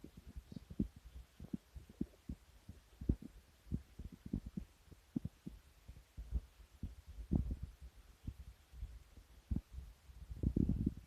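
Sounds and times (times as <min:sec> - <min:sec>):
low thumps on microphone: 0:00.0 - 0:11.0.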